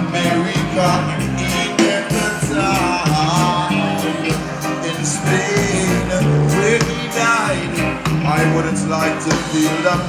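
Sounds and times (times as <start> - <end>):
live reggae band playing: 0.0 - 10.0
male lead vocal: 0.0 - 10.0.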